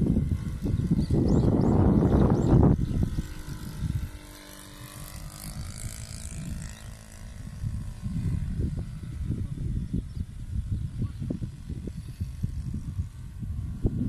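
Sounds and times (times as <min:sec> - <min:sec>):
model plane motor droning: 0:00.0 - 0:14.0
wind rumble on microphone: 0:00.0 - 0:14.0.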